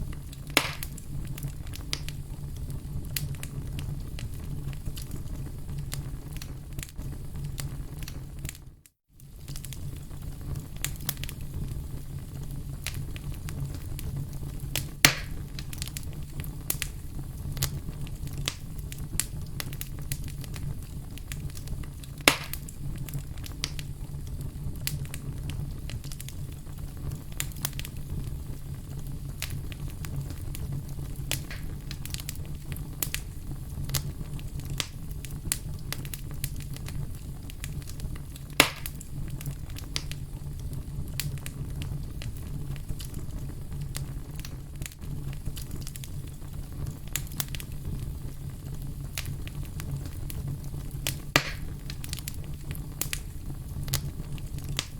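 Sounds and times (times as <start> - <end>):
fire pops: 0.0 - 54.9
low rumble of fire: 0.0 - 54.9
wood fire crackling: 0.0 - 54.9.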